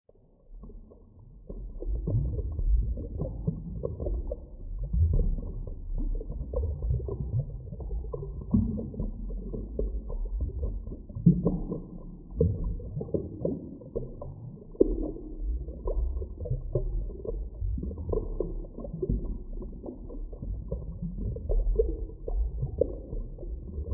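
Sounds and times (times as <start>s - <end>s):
deep underwater rumble: 0.1s - 23.9s
underwater bubbling and gurgling: 0.1s - 23.9s.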